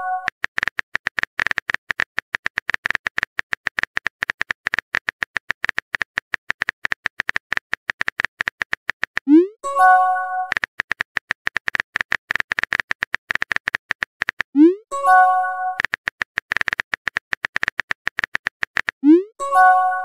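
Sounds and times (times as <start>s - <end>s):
keyboard typing clicks: 0.0s - 20.0s.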